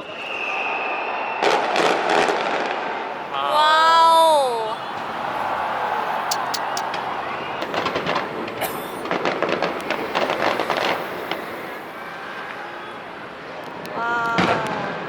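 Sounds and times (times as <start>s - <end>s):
fireworks crackling and popping: 1.4s - 3.4s, 4.3s - 15.0s.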